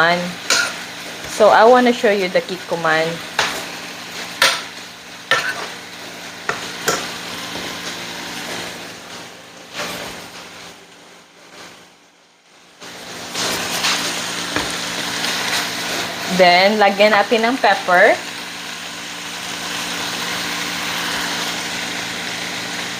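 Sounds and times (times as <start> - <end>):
chicken sizzling in oil: 0.0 - 11.8, 12.7 - 22.9.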